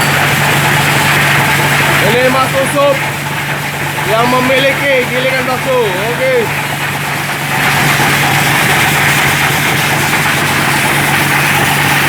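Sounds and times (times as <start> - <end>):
motor humming steadily: 0.0 - 12.0.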